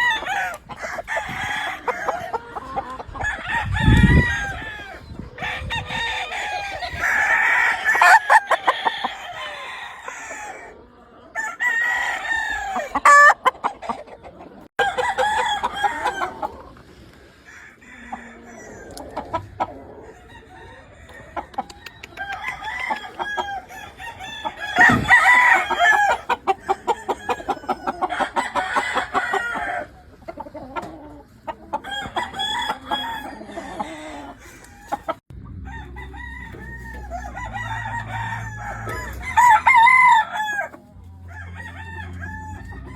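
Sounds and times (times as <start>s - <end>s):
roosters crowing: 0.0s - 14.1s, 14.8s - 42.9s
hens clucking: 0.0s - 42.9s.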